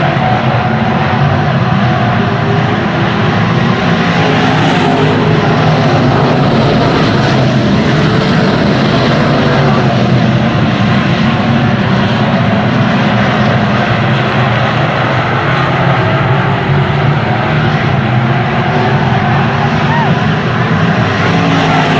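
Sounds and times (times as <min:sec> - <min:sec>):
loud car engine running: 0:00.0 - 0:21.9.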